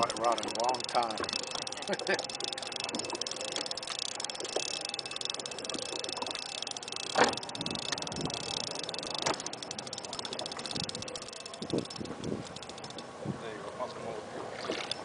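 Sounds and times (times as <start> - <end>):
boat motor running: 0.0 - 13.3
water noise: 0.0 - 15.0
wind: 0.0 - 15.0.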